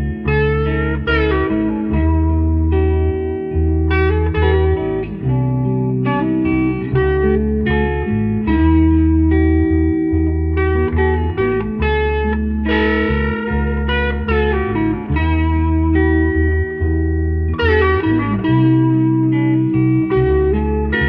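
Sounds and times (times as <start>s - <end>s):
looped bass line: 0.0s - 21.0s
overdriven electric guitar lead: 0.0s - 21.0s.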